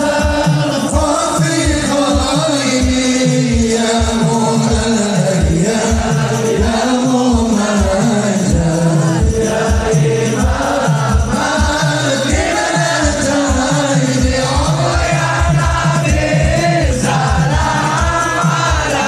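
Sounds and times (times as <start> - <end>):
lead voice singing: 0.0 - 19.0
low drum beats: 0.0 - 19.0
many voices chanting: 0.0 - 19.0.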